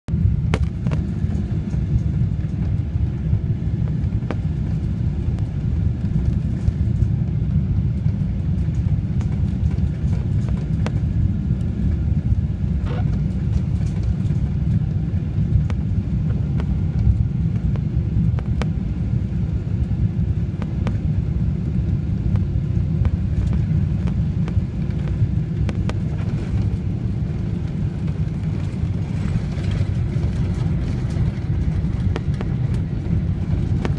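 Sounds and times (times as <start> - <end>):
airliner cabin low rumble: 0.1 - 33.9.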